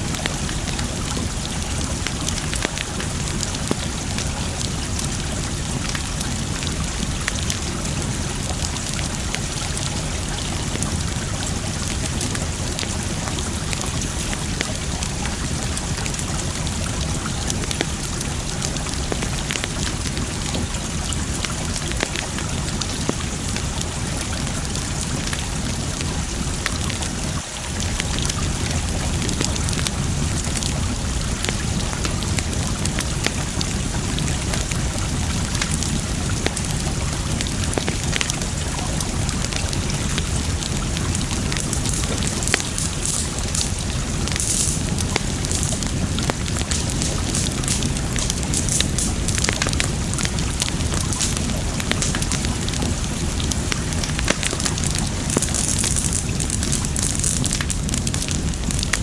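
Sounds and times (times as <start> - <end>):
rushing water: 0.0 - 59.0
wood fire crackling: 0.0 - 59.0.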